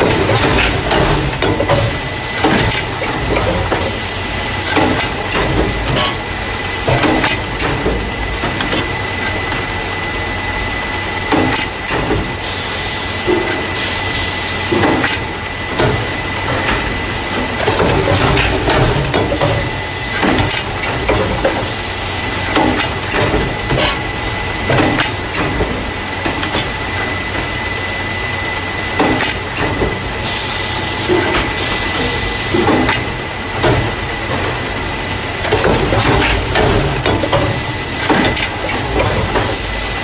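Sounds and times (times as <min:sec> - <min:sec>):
machine clacks and knocks: 0:00.0 - 0:10.0, 0:11.2 - 0:12.6, 0:13.2 - 0:28.0, 0:28.8 - 0:40.0
packing machine hum and whine: 0:00.0 - 0:40.0.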